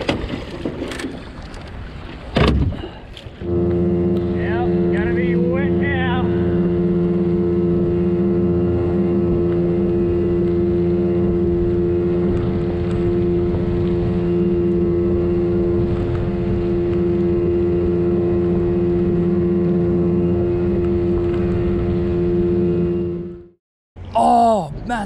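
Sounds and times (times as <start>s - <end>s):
boat motor droning: 0.0s - 25.0s.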